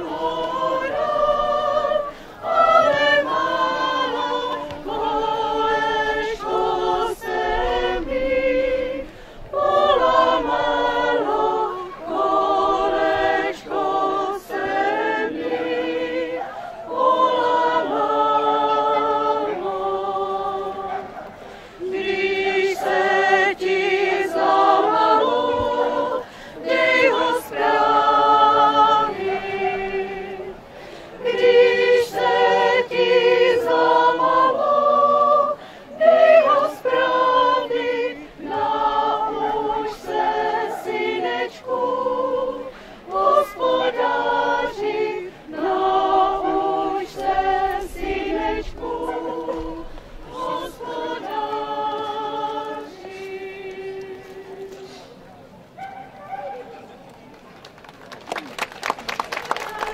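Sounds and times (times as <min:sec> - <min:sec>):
choir singing: 0:00.0 - 0:55.2.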